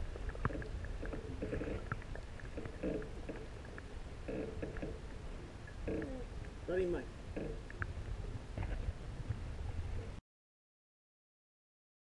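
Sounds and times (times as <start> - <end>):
underwater rumble: 0.0 - 10.2.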